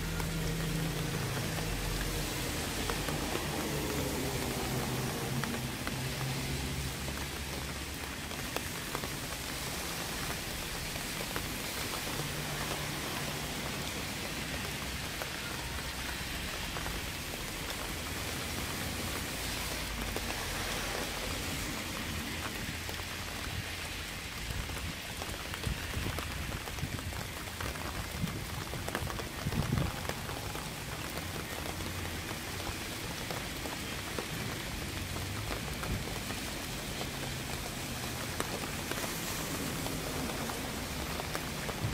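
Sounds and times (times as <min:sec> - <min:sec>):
raindrops ticking: 0:00.0 - 0:41.9
steady rain: 0:00.0 - 0:41.9.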